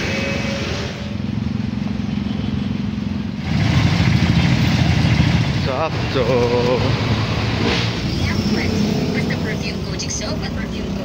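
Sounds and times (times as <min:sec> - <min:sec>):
motor vehicle engine running: 0:00.0 - 0:11.0
road noise: 0:00.0 - 0:11.0.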